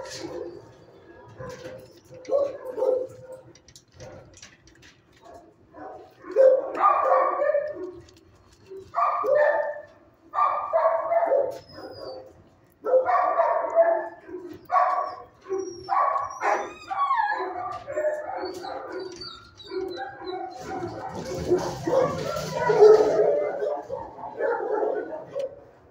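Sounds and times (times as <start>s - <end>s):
dogs barking: 0.0s - 4.5s, 5.2s - 25.9s.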